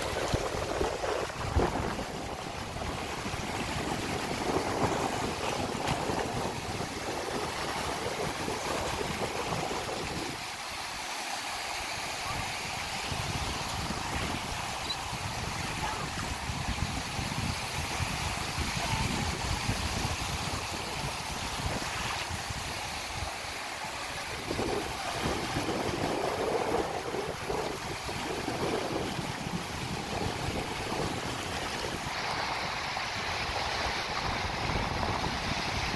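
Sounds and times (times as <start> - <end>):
wind buffeting microphone: 0.0 - 10.6, 12.0 - 35.9
small waves washing over sand: 0.0 - 35.9.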